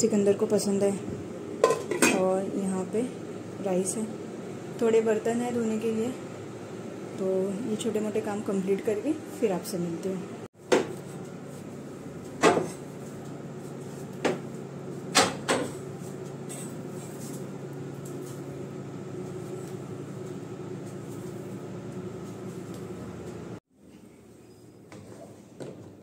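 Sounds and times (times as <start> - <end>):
steady machine hum: 0.0 - 23.6.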